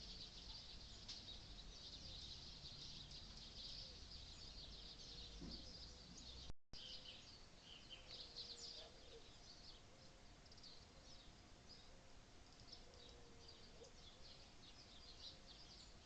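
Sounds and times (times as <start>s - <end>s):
birds and insects chirping: 0.0s - 16.0s.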